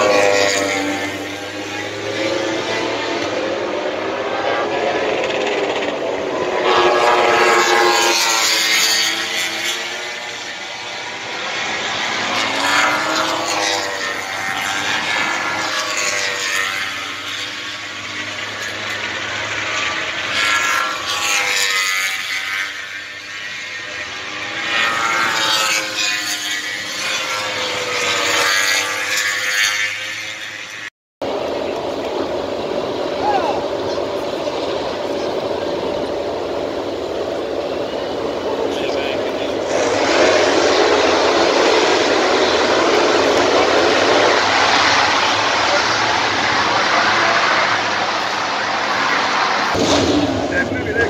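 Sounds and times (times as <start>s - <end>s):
racing motorcycles passing: 0.0s - 51.0s
steady engine hum: 0.0s - 51.0s.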